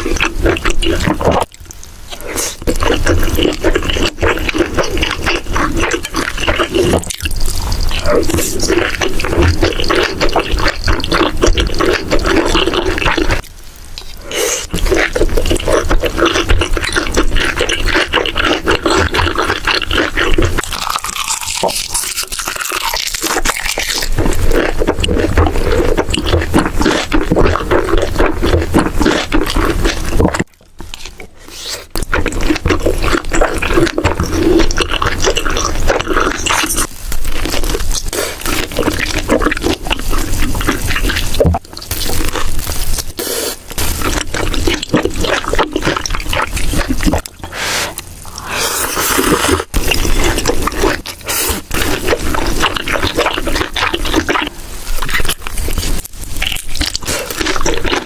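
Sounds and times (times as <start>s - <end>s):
wet chewing and mouth noises: 0.0s - 58.0s.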